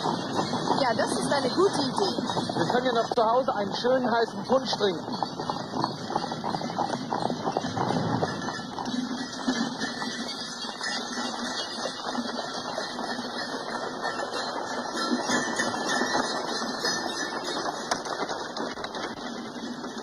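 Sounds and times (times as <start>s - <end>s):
sleigh harness jingling and clatter: 0.0s - 20.0s.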